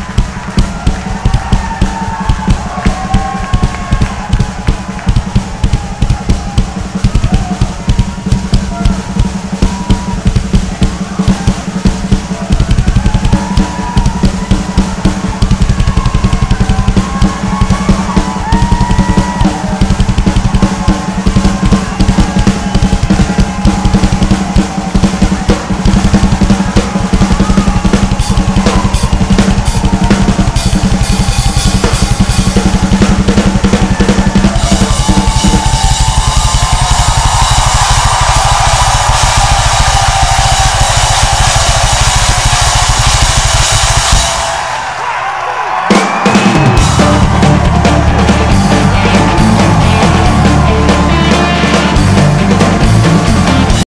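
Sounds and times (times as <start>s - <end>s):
fast drum solo: 0.0s - 53.9s.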